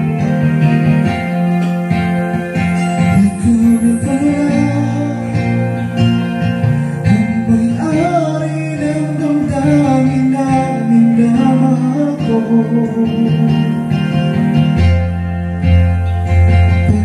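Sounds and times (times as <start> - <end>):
karaoke guitar music: 0.0 - 17.0.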